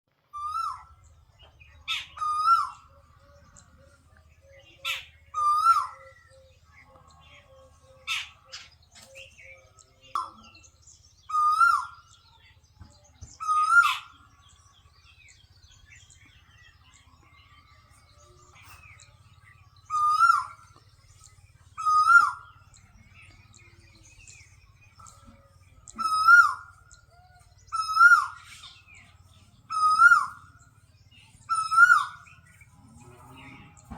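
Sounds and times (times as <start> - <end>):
bird calling: 0.3 - 33.9.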